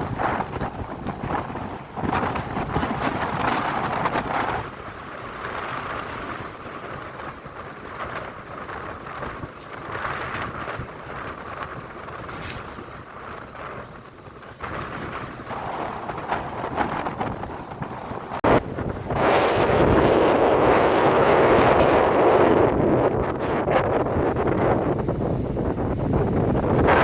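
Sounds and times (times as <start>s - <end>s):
ocean waves washing ashore: 0.0s - 27.0s
wind rumbling on microphone: 0.0s - 27.0s.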